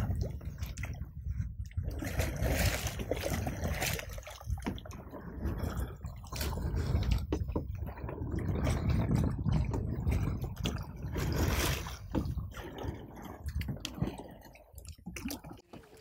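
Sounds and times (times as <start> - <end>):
water splashing against raft: 0.0 - 16.0.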